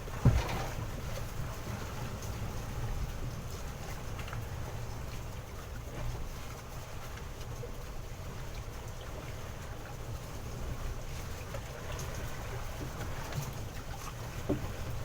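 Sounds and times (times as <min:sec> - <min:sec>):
boat engine rumble: 0:00.0 - 0:15.0
wind: 0:00.0 - 0:15.0.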